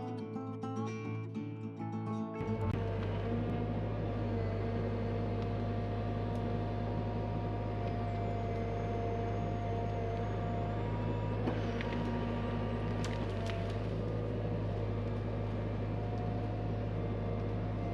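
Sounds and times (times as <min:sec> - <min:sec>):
excavator engine humming: 0:02.4 - 0:17.9
hydraulic whine: 0:02.4 - 0:17.9.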